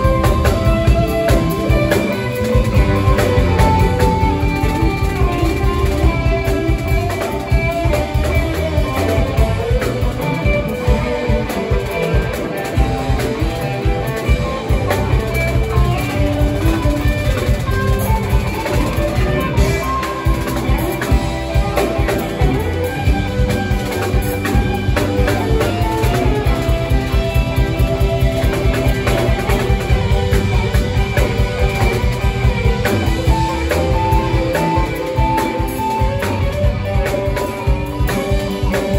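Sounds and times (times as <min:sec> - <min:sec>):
electric guitars: 0:00.0 - 0:38.9
pounding drum kit: 0:00.0 - 0:38.9.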